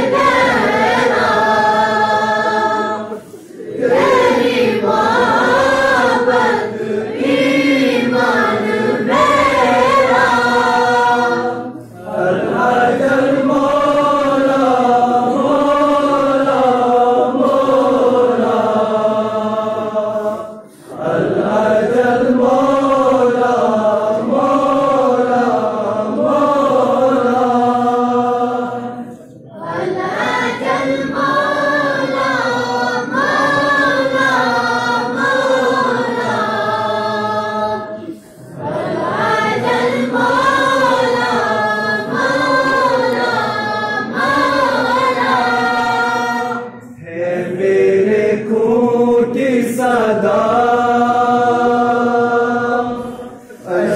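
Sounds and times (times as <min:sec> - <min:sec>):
boys chanting in unison: 0:00.0 - 0:53.9.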